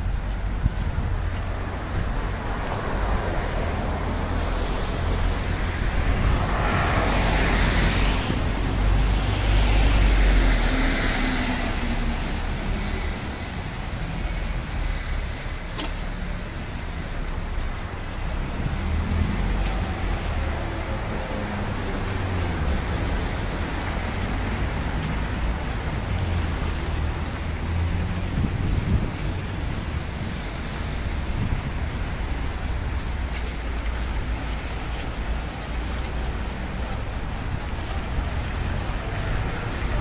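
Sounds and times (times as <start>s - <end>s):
cars driving past: 0.0s - 40.0s
low traffic rumble: 0.0s - 40.0s.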